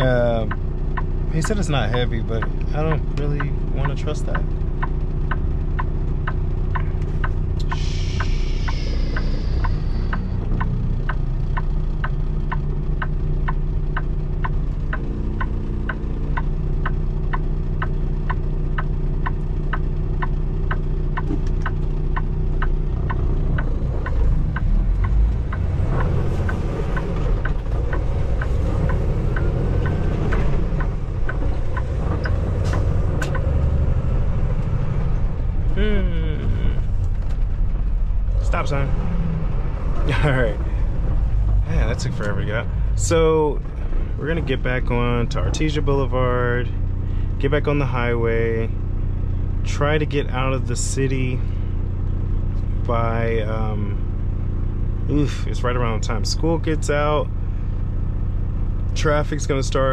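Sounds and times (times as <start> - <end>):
steady regular ticking: 0.0 - 56.3
diesel truck engine running: 0.0 - 59.9.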